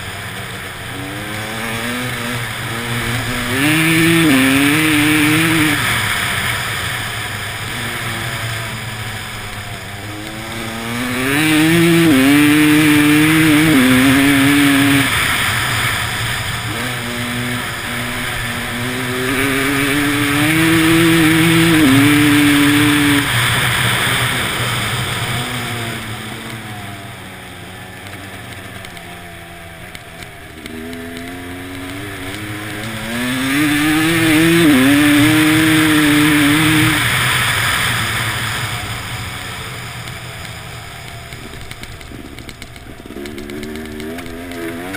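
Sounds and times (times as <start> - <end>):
motorcycle engine accelerating: 0.0 - 44.9
steady rushing hiss: 0.0 - 44.9.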